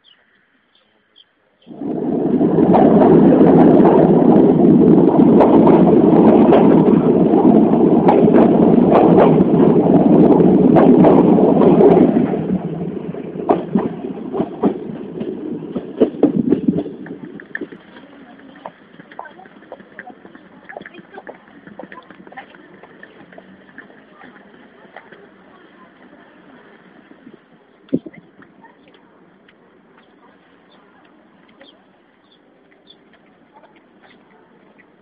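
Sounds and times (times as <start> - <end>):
train wheels rumbling on rails: 1.6 - 35.0.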